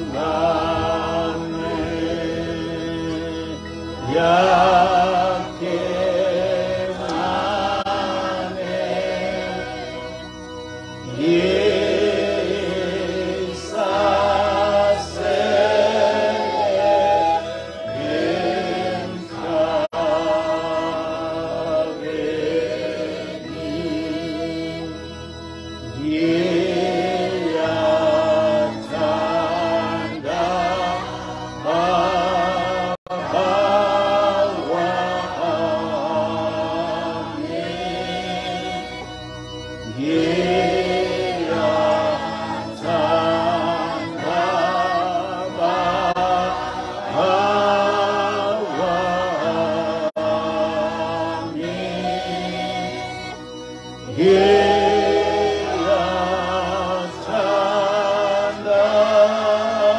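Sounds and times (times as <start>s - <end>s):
man singing a hymn: 0.0s - 59.9s.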